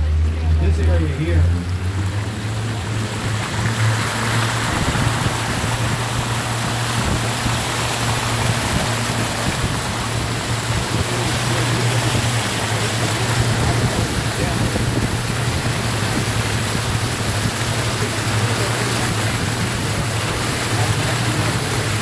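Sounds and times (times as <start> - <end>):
boat motor humming: 0.0 - 22.0
continuous rushing noise: 0.0 - 22.0.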